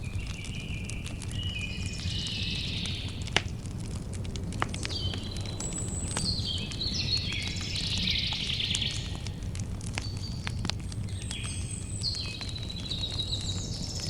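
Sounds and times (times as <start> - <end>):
songbird singing: 0.0 - 3.3, 4.7 - 9.4, 10.0 - 14.0
campfire crackling and popping: 0.0 - 14.0.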